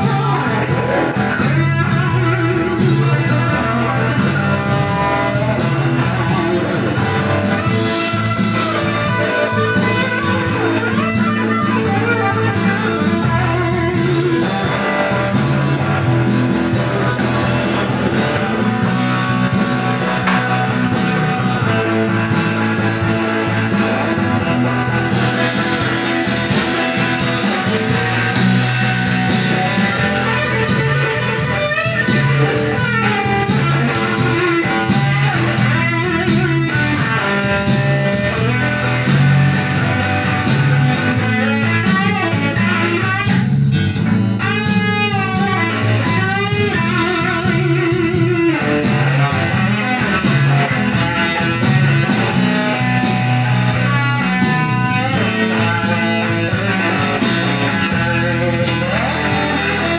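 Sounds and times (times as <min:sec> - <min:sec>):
electric guitar lead lines: 0:00.0 - 0:59.9.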